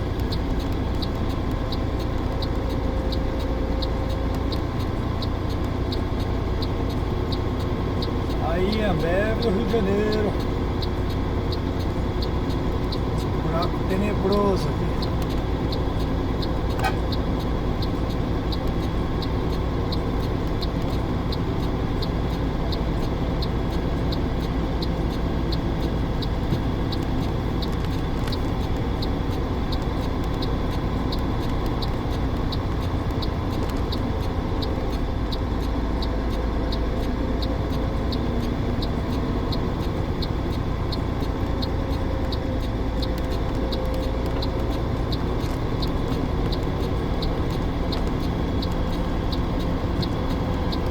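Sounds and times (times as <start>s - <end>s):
light ticking: 0.0s - 50.9s
truck running: 0.0s - 50.9s.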